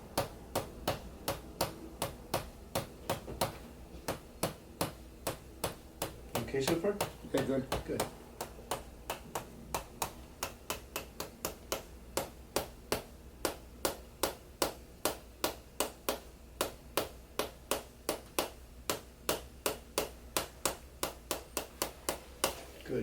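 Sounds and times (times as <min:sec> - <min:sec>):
rapid sharp tapping: 0:00.0 - 0:22.7.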